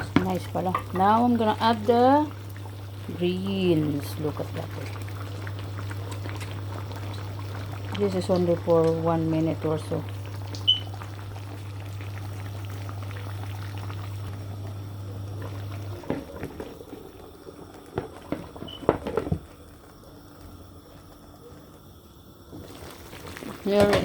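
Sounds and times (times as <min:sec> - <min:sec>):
sauce bubbling in a pan: 0:00.0 - 0:24.0
steady low hum: 0:00.0 - 0:24.0.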